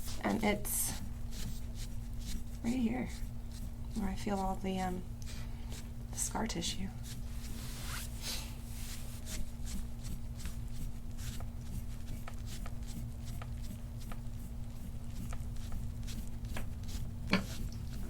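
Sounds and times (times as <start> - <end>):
rubbing and scraping on skin: 0.0 - 6.3, 6.9 - 18.0
low electrical hum: 0.0 - 18.0.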